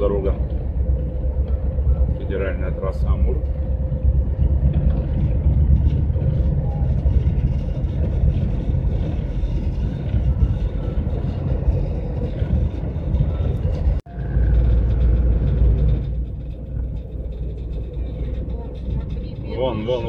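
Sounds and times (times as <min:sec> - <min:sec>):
road and engine noise in van cab: 0:00.0 - 0:20.0.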